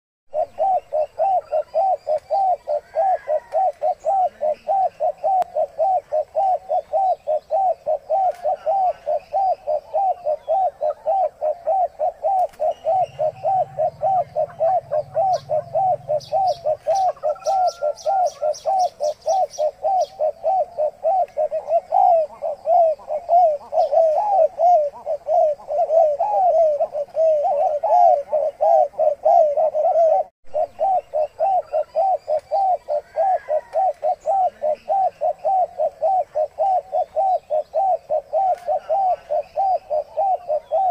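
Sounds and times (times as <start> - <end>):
doves cooing short low notes: 0.3 - 40.9.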